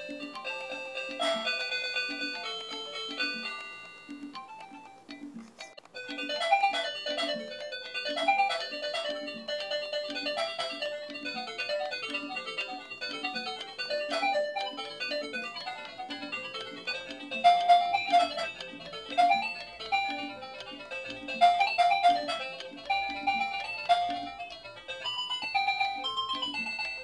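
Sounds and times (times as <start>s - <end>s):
toy electronic melody: 0.0s - 27.0s.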